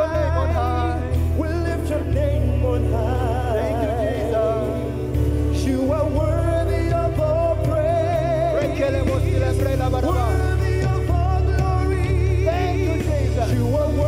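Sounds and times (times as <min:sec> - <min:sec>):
band with heavy bass: 0:00.0 - 0:14.0
person singing: 0:00.0 - 0:14.0.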